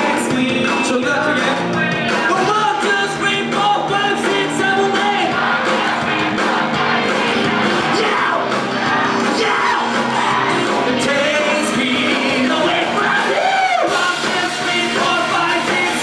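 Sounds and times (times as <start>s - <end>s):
crowd yelling and cheering: 0.0s - 16.0s
live rock band with singer: 0.0s - 16.0s.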